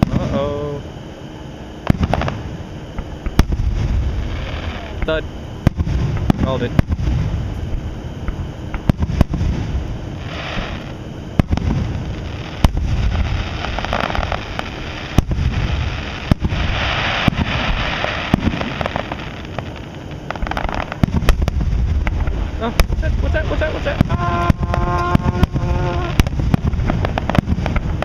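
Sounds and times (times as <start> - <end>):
fireworks bangs: 0.0 - 0.6, 1.8 - 28.0
fireworks crackling: 0.0 - 0.8, 1.8 - 28.0
low rumble: 1.8 - 28.0.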